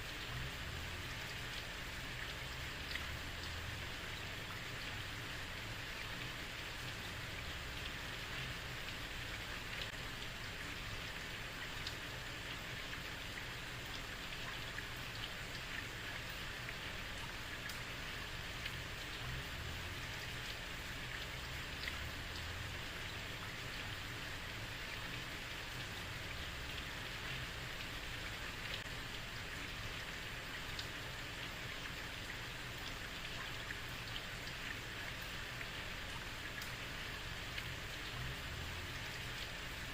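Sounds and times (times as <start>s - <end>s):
heavy rain on street: 0.0s - 39.9s
rain drop ticks: 0.0s - 39.9s.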